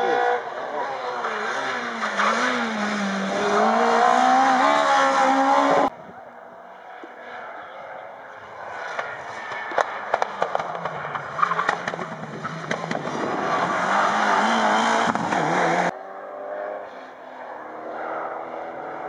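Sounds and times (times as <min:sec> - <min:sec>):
rally car engine accelerating: 0:00.0 - 0:05.9, 0:07.2 - 0:19.0
distant rally car engine: 0:00.0 - 0:19.0.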